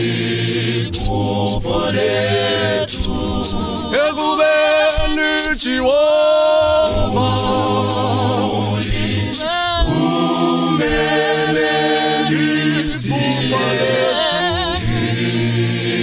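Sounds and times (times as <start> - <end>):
choir singing a cappella: 0.0 - 16.0.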